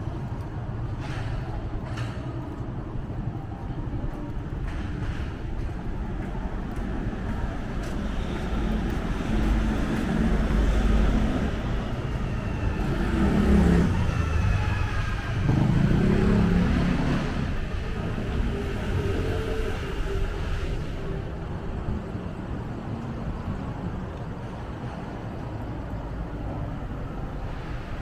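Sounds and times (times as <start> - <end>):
cars passing: 0.0 - 28.0
road traffic rumble: 0.0 - 28.0.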